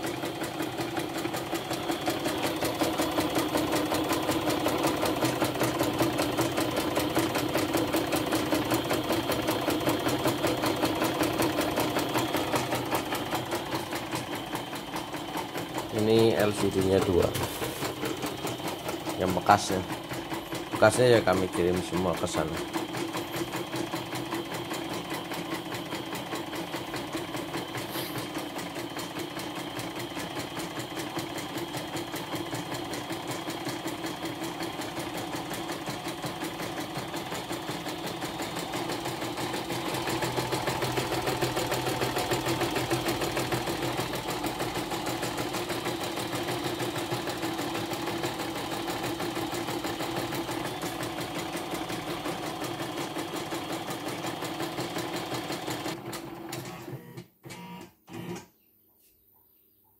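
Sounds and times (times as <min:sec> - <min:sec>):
embroidery machine stitching: 0:00.0 - 0:58.4.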